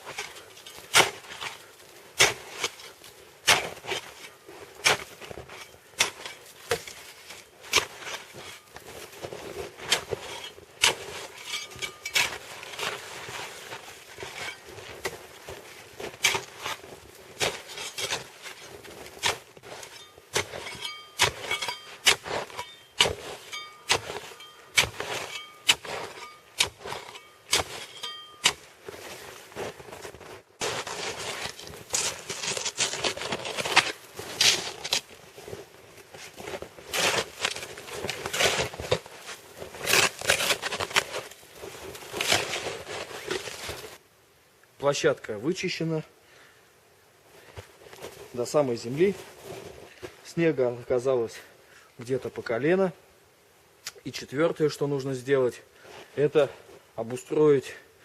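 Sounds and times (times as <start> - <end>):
shovel crunching and scraping snow: 0.0 - 44.0, 47.4 - 51.5, 54.6 - 57.8.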